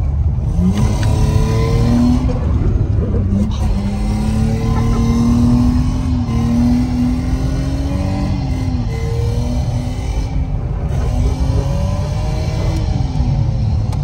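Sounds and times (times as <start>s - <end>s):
car engine at high revs: 0.0s - 14.0s
car rumbling on road: 0.0s - 14.0s.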